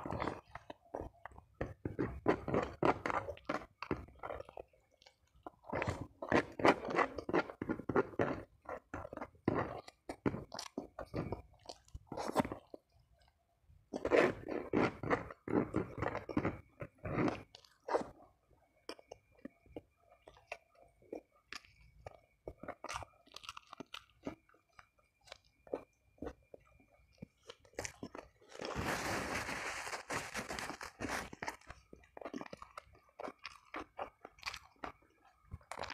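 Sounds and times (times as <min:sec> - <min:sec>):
chewing and crunching food: 0:00.0 - 0:35.9.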